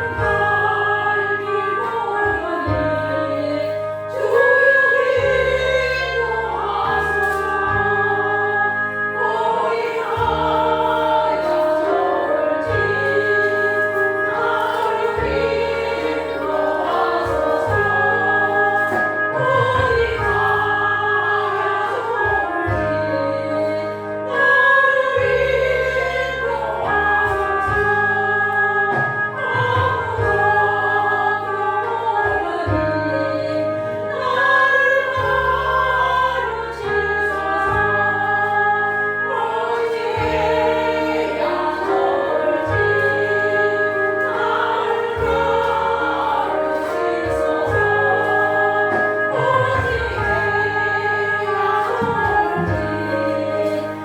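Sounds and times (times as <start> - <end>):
choir singing a hymn: 0.0 - 54.0
steady accompaniment: 0.0 - 54.0.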